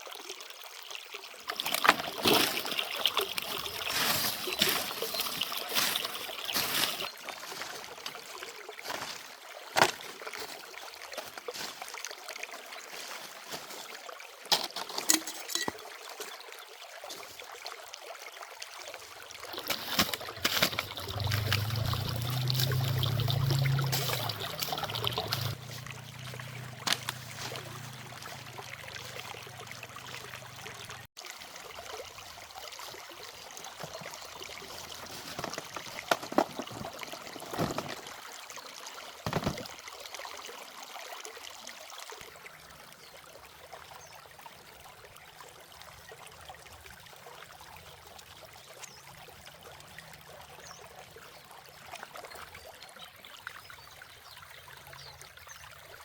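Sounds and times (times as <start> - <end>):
water running and splashing: 0.0 - 45.0.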